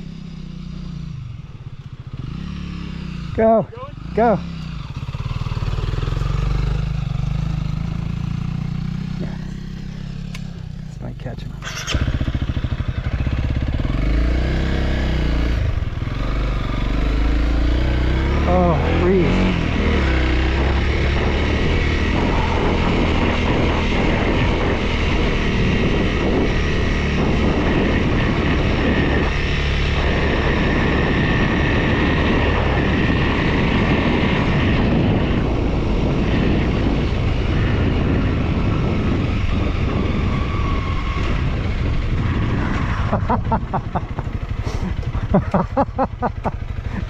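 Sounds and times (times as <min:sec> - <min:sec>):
motorcycle engine running: 0:00.0 - 0:47.0
wind rushing over microphone: 0:00.9 - 0:47.0.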